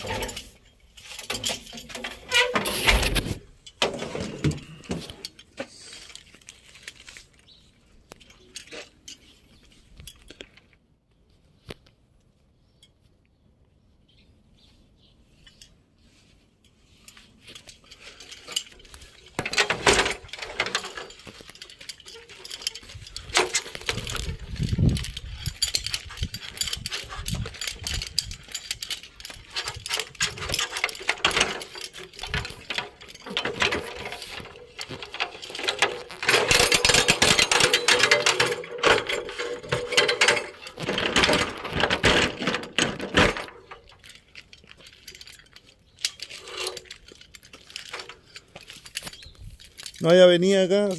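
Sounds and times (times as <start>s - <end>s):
work gear knocking and rattling: 0.0s - 7.2s, 16.9s - 50.9s.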